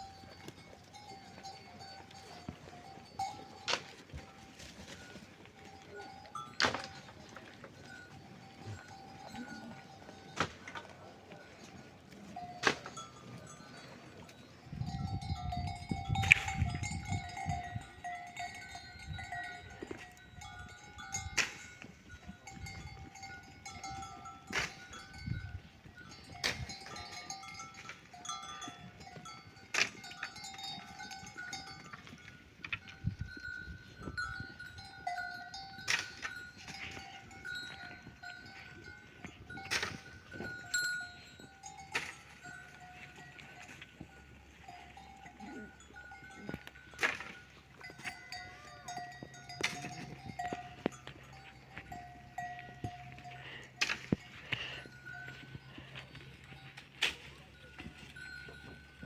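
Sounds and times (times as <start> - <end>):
small bells clinking: 0.0 - 59.0.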